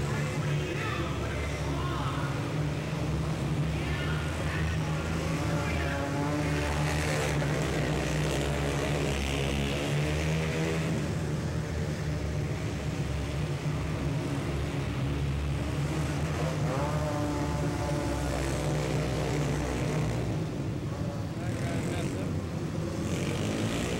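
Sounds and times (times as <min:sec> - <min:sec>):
racing quad engines: 0:00.0 - 0:23.9.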